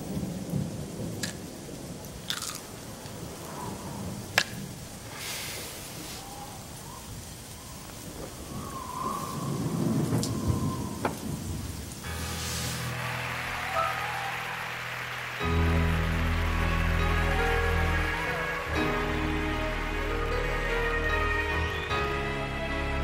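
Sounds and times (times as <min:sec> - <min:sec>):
thunder rumbling: 0:00.0 - 0:05.2, 0:05.8 - 0:20.0
steady rain: 0:00.0 - 0:23.0.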